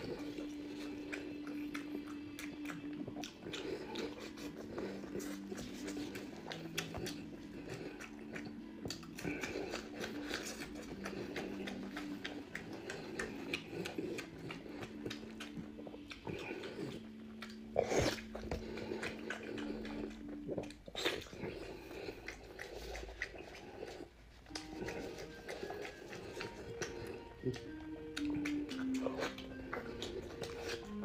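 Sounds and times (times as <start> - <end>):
low steady hum: 0.0 - 31.0
man chewing wetly: 0.0 - 31.0
sticky mouth clicks: 0.0 - 31.0.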